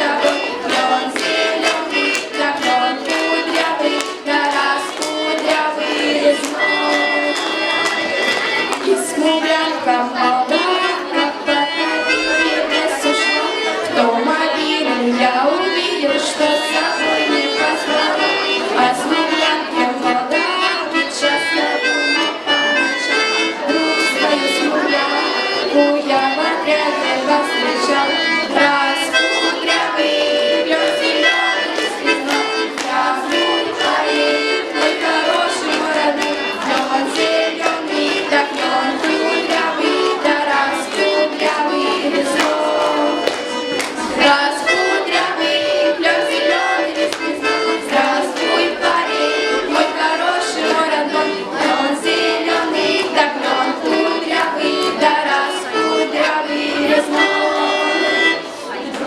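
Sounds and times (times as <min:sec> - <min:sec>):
lively folk-style instrumental tune: 0:00.0 - 0:59.0.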